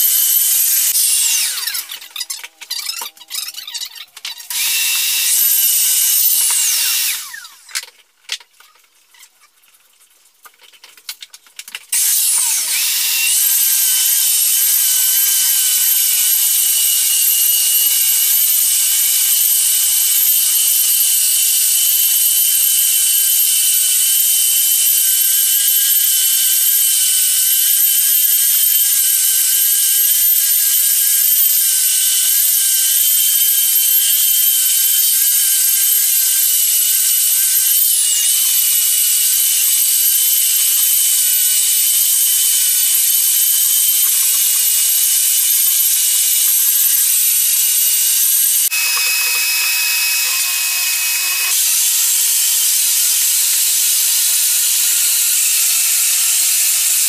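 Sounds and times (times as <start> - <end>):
floor sander motor whining: 0.0 - 2.1, 4.5 - 7.5, 12.0 - 21.0, 24.8 - 57.0.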